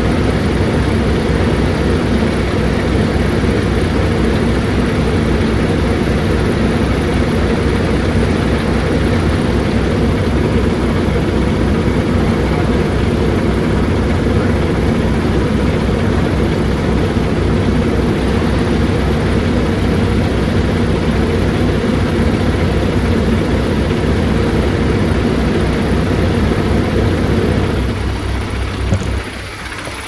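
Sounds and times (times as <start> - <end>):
low hum: 0.0 - 30.0
motor running with low pulsing: 0.0 - 30.0.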